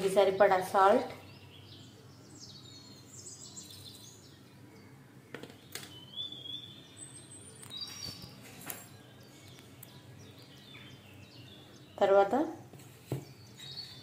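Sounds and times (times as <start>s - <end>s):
faint bird chirps and whistles: 1.2s - 12.1s, 13.2s - 14.0s.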